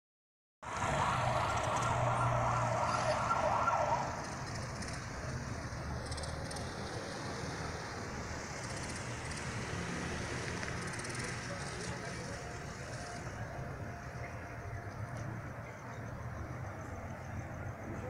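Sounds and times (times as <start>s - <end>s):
car engine and road noise: 0.6s - 18.0s.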